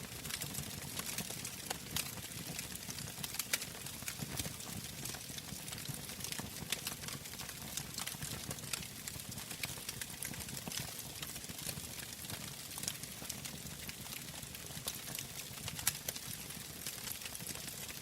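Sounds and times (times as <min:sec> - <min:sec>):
wood fire crackling and popping: 0:00.1 - 0:18.0.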